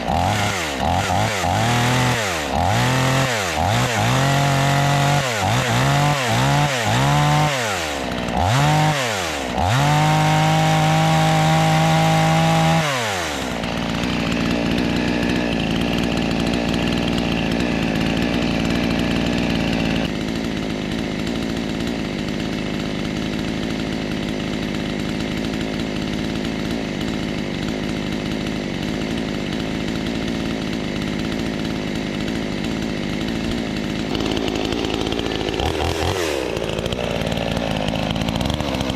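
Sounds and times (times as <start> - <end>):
chainsaw engine revving and idling: 0.0 - 38.9.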